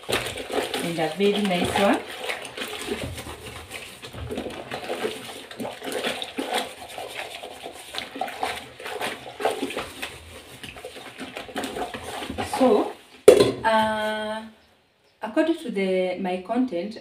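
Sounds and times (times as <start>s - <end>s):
water sloshing in sink: 0.0s - 13.6s
pots knocking and scraping: 0.0s - 14.0s.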